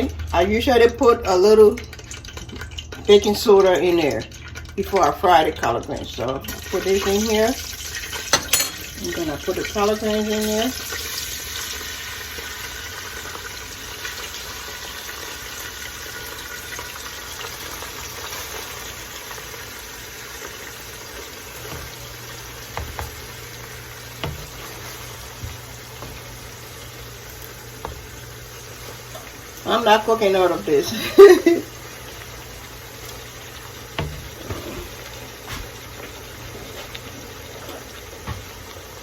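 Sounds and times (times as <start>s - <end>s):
greens sizzling in hot oil: 0.0s - 39.0s.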